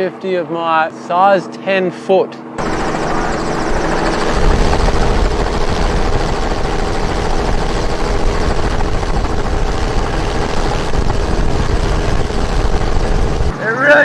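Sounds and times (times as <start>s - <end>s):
helicopter rotor and engine: 2.4s - 13.7s.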